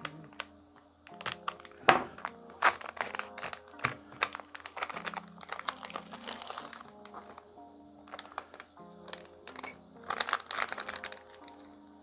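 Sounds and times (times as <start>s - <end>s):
anti-static bag crinkling: 0.0s - 12.0s
quiet background music: 0.0s - 12.0s.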